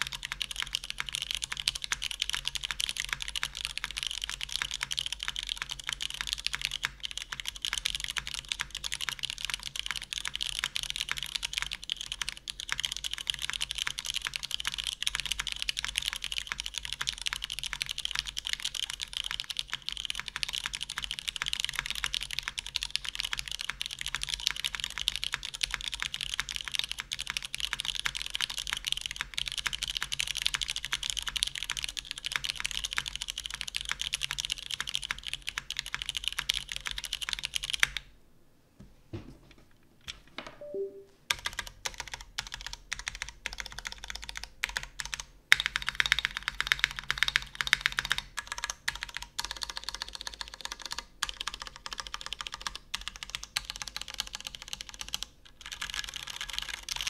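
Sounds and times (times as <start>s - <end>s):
mechanical keyboard typing: 0.0s - 38.1s, 40.0s - 57.0s.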